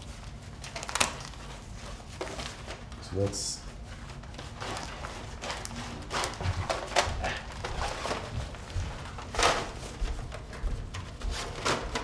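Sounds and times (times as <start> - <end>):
plastic toy rustling in fabric: 0.0 - 10.5.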